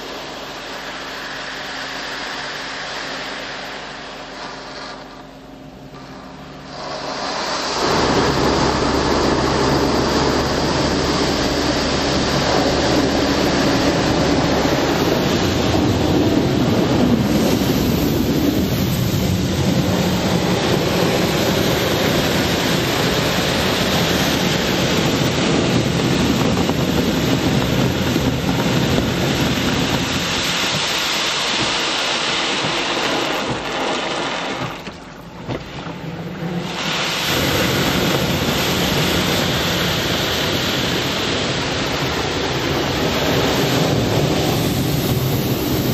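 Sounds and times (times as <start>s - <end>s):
car wash machinery roaring: 0.0s - 45.9s.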